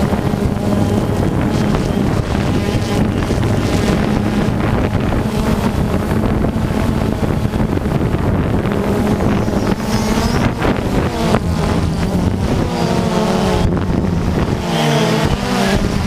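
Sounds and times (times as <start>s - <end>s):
rc car motors buzzing: 0.0s - 16.0s
wind on microphone: 0.0s - 16.0s.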